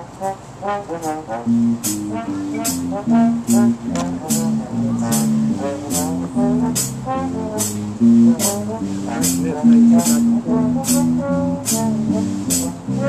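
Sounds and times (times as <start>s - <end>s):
jazz band playing: 0.0s - 13.0s
high percussion taps: 1.5s - 12.8s.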